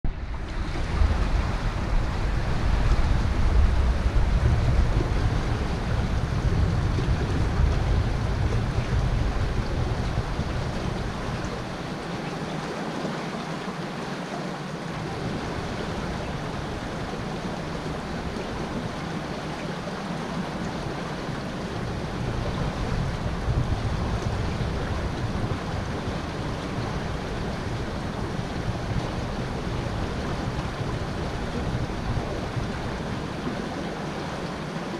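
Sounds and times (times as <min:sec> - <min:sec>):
wind buffeting microphone: 0:00.0 - 0:12.4, 0:14.8 - 0:34.9
river water rushing against bank: 0:00.1 - 0:34.9.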